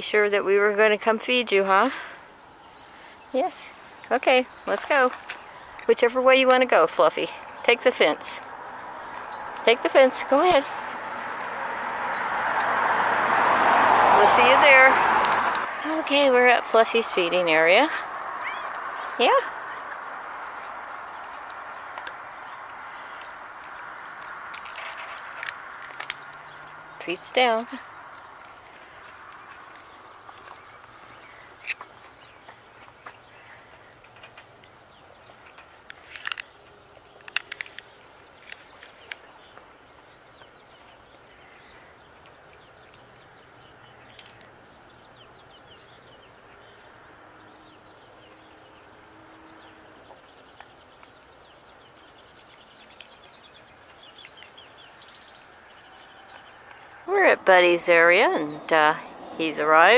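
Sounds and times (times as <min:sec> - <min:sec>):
small birds chirping: 0:00.0 - 0:12.8, 0:13.9 - 0:59.9.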